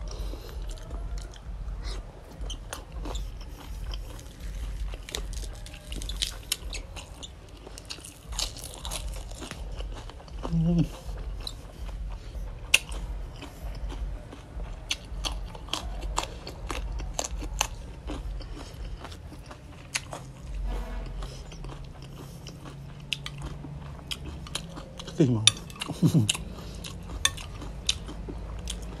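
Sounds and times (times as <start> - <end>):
close chewing and crunching: 0.0 - 29.0
low steady hum: 0.0 - 29.0.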